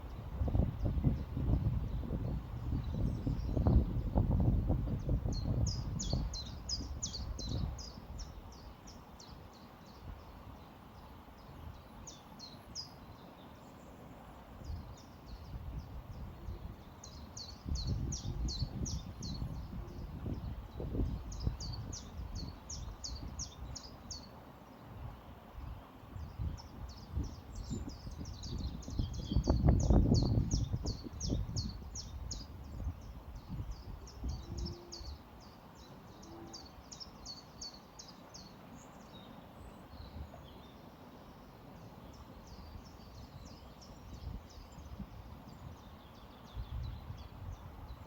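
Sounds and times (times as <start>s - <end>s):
songbird chirping: 0.0s - 48.0s.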